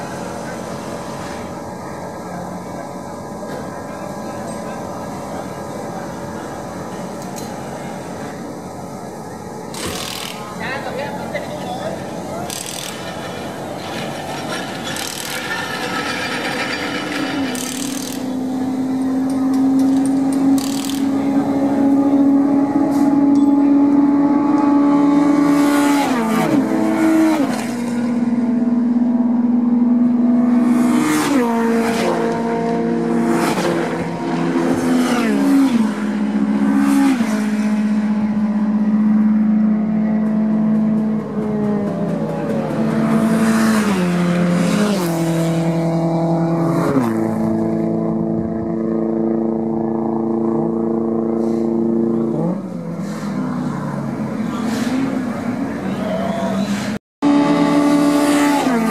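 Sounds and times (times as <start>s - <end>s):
race car engines downshifting: 0.0s - 58.9s.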